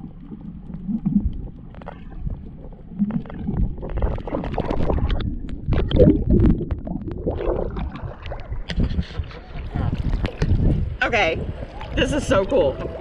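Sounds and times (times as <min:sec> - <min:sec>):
water sloshing and bubbling: 0:00.0 - 0:13.0.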